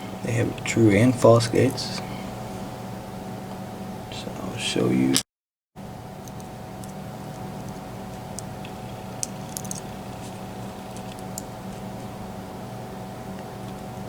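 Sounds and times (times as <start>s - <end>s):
steady low hum: 0.0s - 5.2s, 5.8s - 14.0s.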